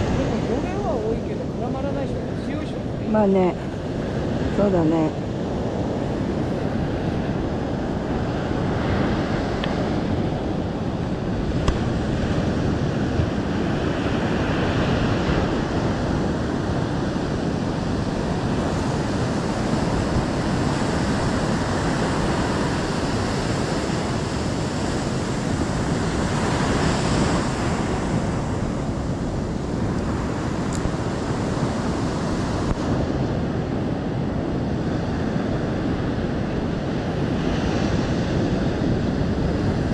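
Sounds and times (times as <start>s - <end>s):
ocean surf breaking on beach: 0.0s - 39.9s
wind on microphone: 0.0s - 39.9s.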